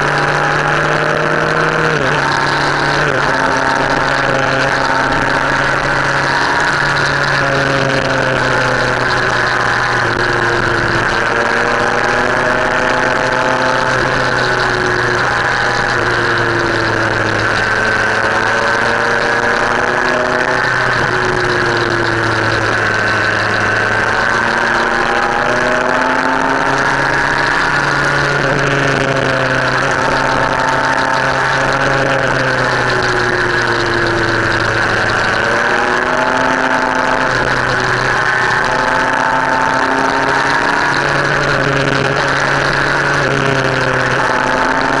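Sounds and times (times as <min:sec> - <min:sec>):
motorcycle engine running: 0:00.0 - 0:45.0
wind and road noise: 0:00.0 - 0:45.0.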